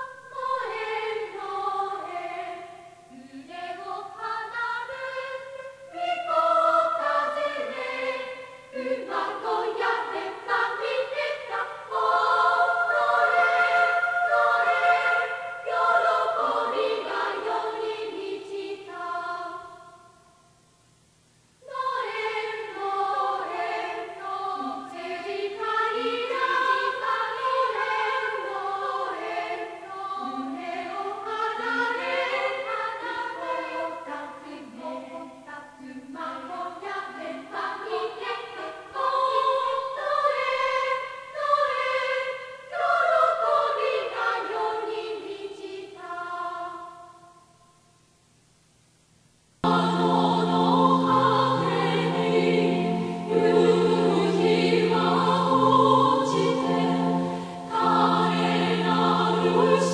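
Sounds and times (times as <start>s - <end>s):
choir singing a hymn: 0.0s - 20.2s, 21.6s - 47.5s, 49.6s - 59.9s.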